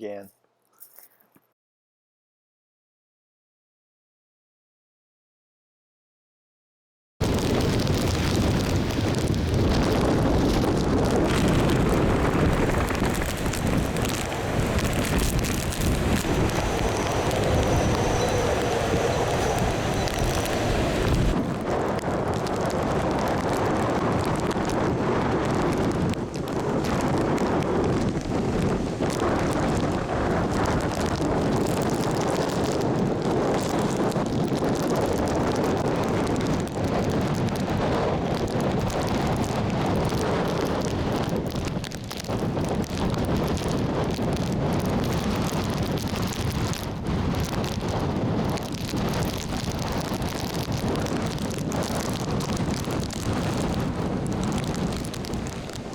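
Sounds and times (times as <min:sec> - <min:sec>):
hurricane wind buffeting microphone: 0:07.2 - 0:55.9
rain: 0:07.2 - 0:55.9.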